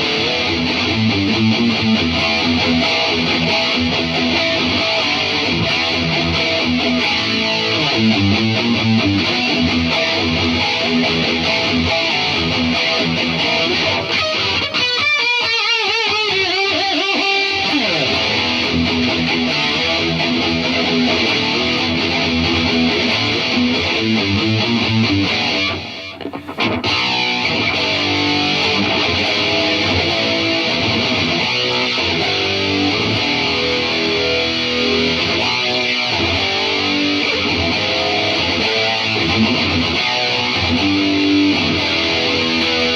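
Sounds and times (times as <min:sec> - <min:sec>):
distorted electric guitar riffs: 0:00.0 - 0:42.9.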